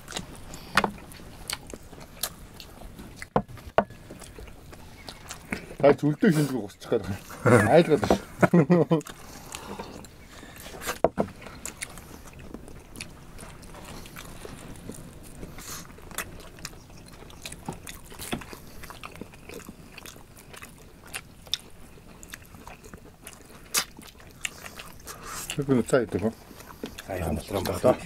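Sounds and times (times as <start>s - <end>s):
people chewing meat: 0.0s - 28.0s.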